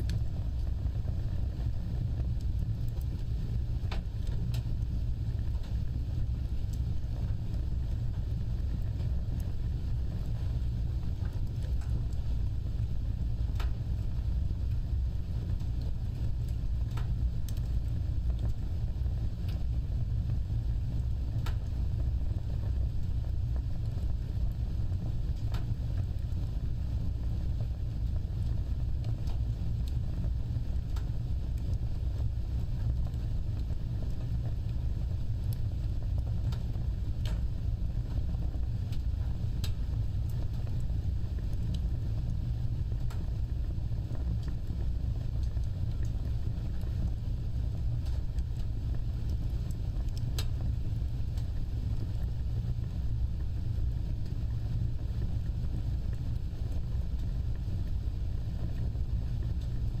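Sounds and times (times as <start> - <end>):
fire crackling and popping: 0.0 - 60.0
fire flames rumbling: 0.0 - 60.0.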